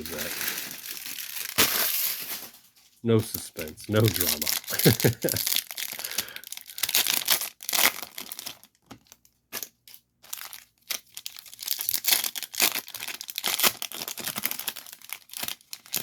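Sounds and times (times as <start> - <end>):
card pack wrapper crinkling: 0.0 - 2.5, 3.2 - 16.0.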